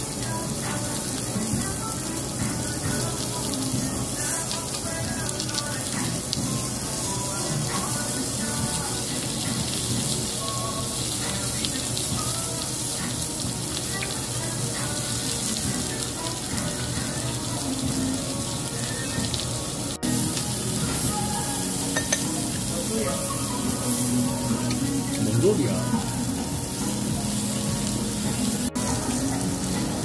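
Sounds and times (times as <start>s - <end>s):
meat sizzling on a grill: 0.0s - 30.0s.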